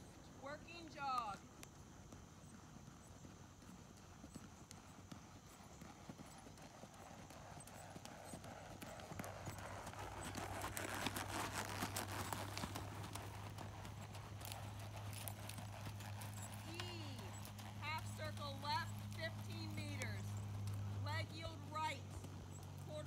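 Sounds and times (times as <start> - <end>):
horse hoofbeats on sand: 0.9 - 23.0.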